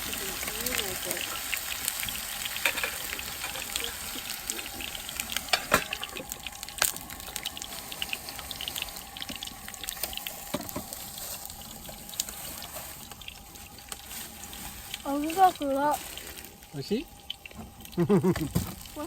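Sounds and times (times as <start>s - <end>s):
food sizzling in oiled pan: 0.0s - 19.0s.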